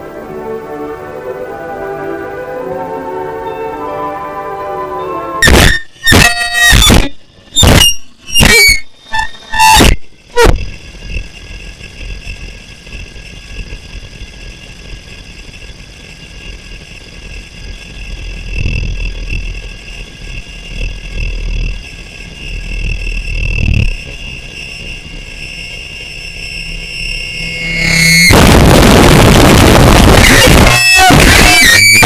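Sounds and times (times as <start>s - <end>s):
engine-like noise drone: 0.0s - 32.0s.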